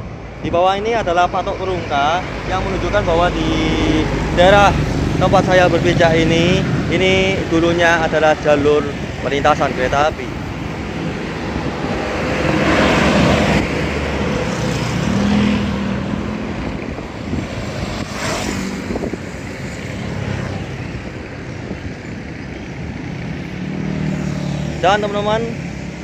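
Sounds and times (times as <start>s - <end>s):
motorcycles passing: 0.0s - 26.0s
truck passing: 0.0s - 26.0s.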